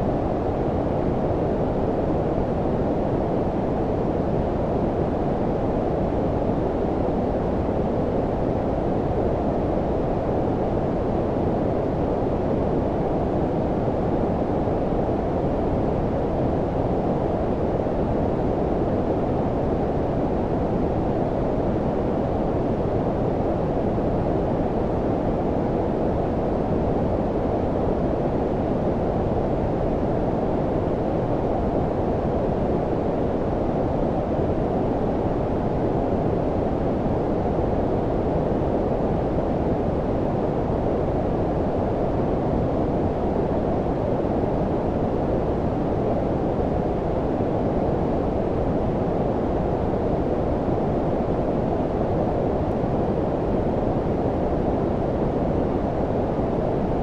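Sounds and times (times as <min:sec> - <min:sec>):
low rushing brown noise: 0:00.0 - 0:57.0.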